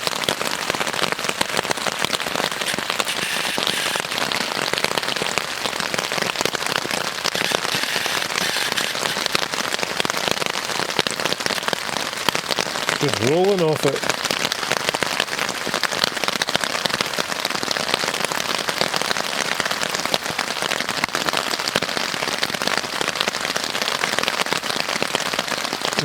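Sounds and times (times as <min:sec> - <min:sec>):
heavy rain on a tarp: 0:00.0 - 0:26.0.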